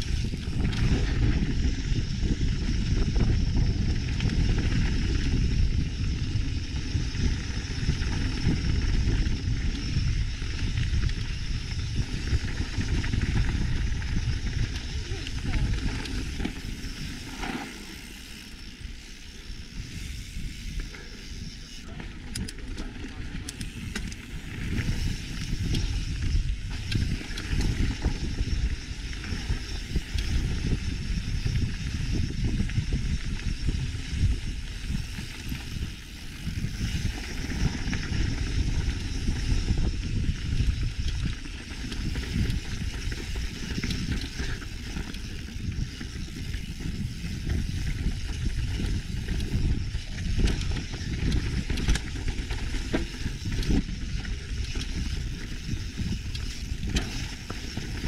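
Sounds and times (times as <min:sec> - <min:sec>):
bike rattling over stones: 0:00.0 - 0:58.0
bike tyres rumbling on gravel: 0:00.0 - 0:58.0.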